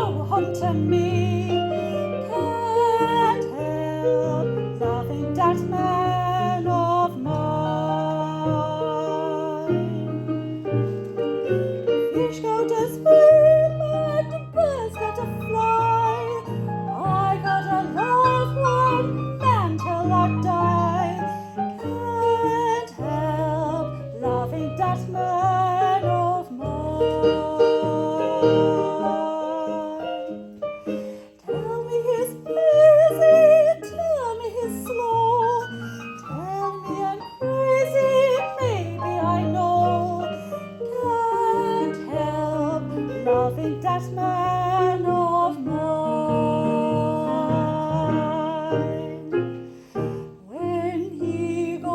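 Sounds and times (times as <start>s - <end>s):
woman singing ballad: 0.0s - 10.3s, 12.0s - 30.4s, 31.5s - 49.4s, 50.4s - 51.9s.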